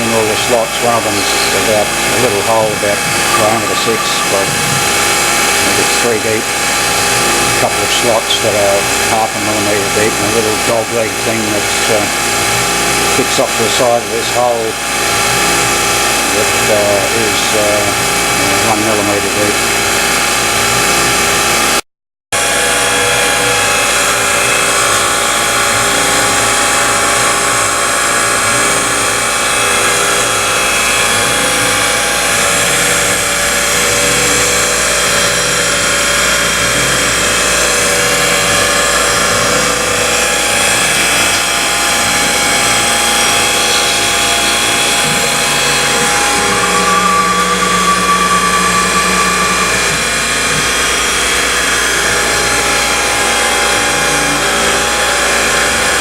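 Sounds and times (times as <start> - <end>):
milling machine running: 0.0 - 21.8, 22.4 - 56.0
steady hum: 0.0 - 21.8, 22.4 - 56.0.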